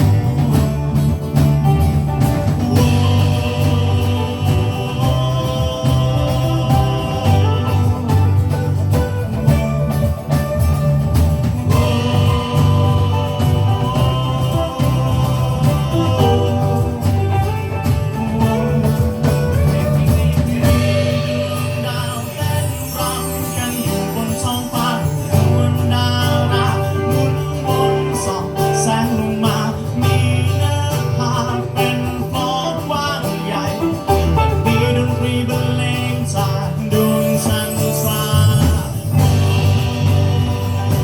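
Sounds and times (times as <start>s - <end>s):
bass line: 0.0s - 41.0s
guitar: 0.0s - 41.0s
person singing: 0.0s - 41.0s.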